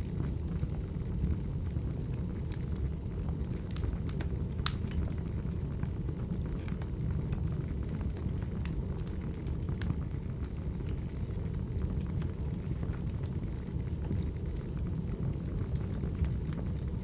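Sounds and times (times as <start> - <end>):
wood fire flames rumbling: 0.0 - 17.0
logs crackling and popping: 0.3 - 17.0.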